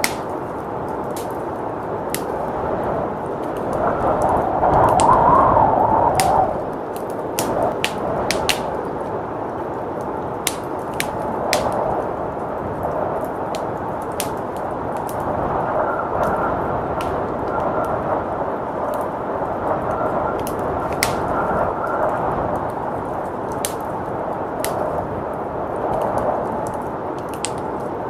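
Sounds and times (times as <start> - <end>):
rushing blizzard wind: 0.0 - 28.0
wood fire crackling and popping: 0.0 - 28.0.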